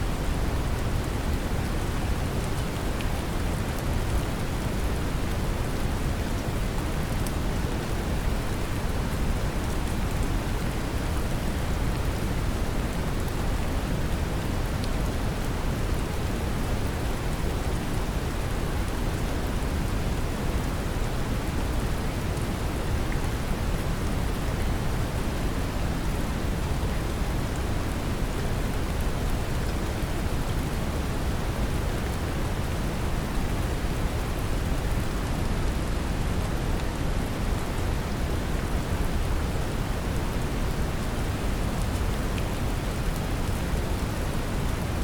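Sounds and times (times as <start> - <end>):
gentle rain patter: 0.0 - 45.0.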